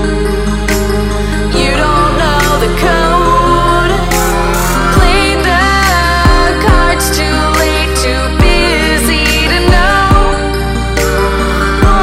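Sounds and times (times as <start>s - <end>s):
steady low bass: 0.0s - 12.0s
wavering gliding melody: 0.0s - 12.0s.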